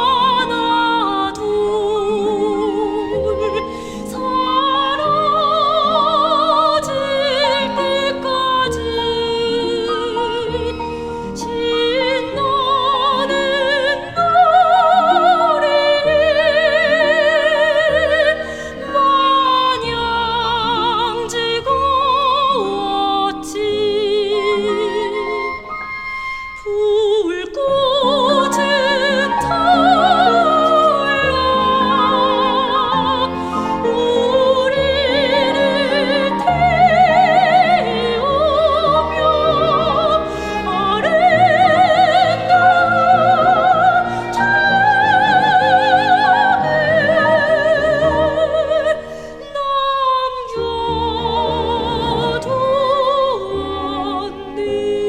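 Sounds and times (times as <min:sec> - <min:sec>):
soprano singing with vibrato: 0:00.0 - 0:55.0.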